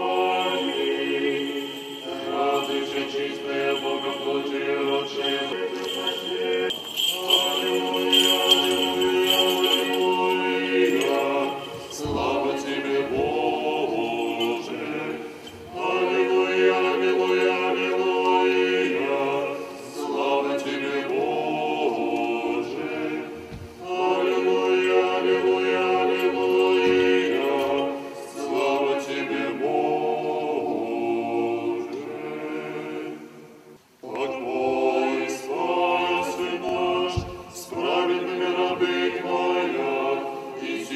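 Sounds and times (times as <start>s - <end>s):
choir chanting unaccompanied: 0.0s - 40.9s.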